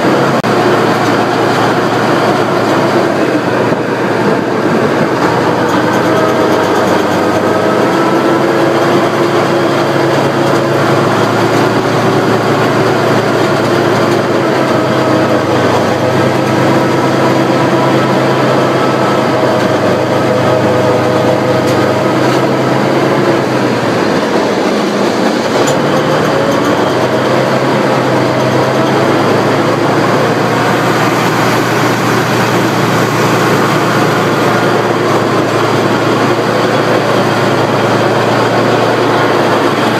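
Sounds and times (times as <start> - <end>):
tank engine running: 0.0 - 39.9
tank tracks clattering: 0.0 - 39.9.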